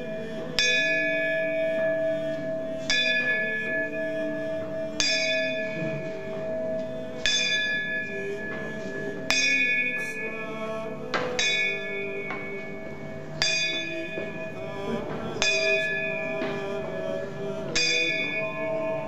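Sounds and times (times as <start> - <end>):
bell tolling: 0.0 - 19.0
steady held drone: 0.0 - 19.0.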